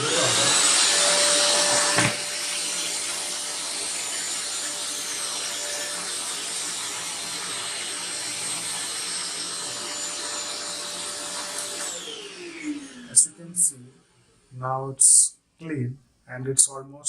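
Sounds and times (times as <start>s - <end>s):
vacuum cleaner running: 0.0s - 15.2s.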